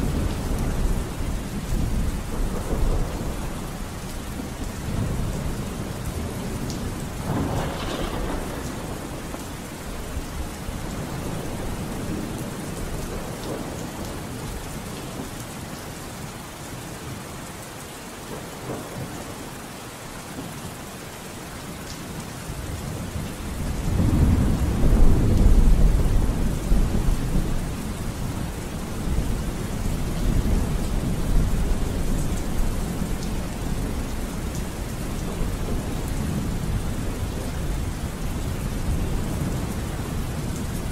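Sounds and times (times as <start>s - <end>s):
rolling thunder: 0.0s - 14.6s, 22.7s - 40.9s
steady rain: 0.0s - 40.9s.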